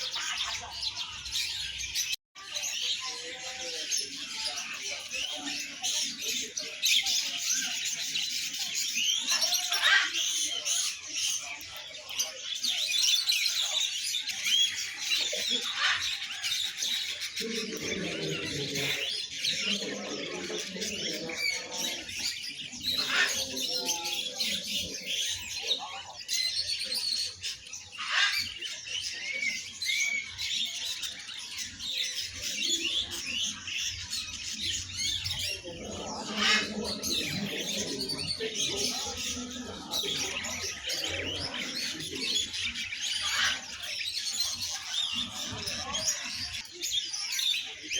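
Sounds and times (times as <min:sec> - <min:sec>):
murmur of voices: 0:00.0 - 0:47.9
songbirds chirping and singing: 0:00.0 - 0:47.9.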